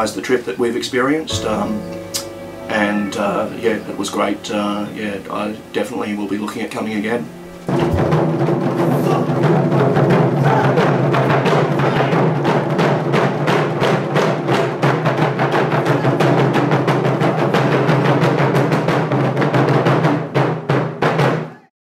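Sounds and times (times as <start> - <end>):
taiko drums playing: 1.3 - 21.6.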